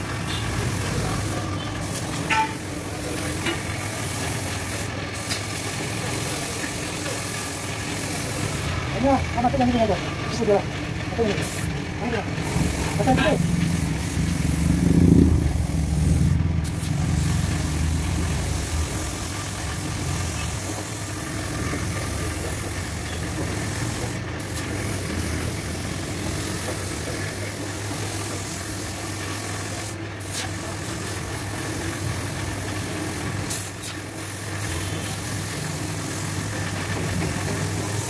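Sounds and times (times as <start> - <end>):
spray gun hissing: 0.2 - 8.7, 12.4 - 38.0.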